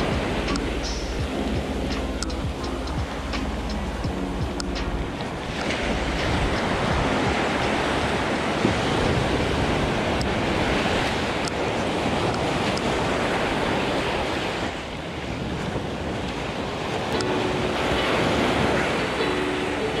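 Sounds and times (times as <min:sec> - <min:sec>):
waves washing onto sandy beach: 0:00.0 - 0:20.0
wind buffeting microphone: 0:00.0 - 0:20.0.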